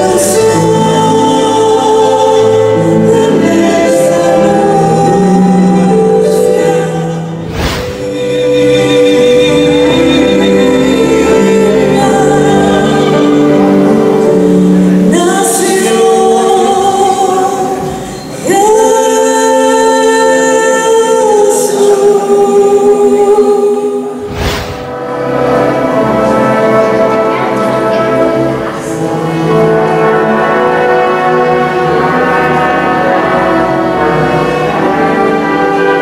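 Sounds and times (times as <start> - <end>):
symphony orchestra with singers: 0.0 - 36.0.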